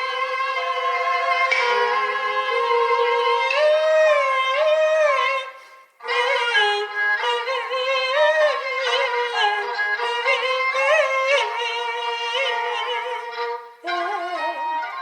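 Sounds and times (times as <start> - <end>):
high bowed-string opera melody: 0.0 - 15.0.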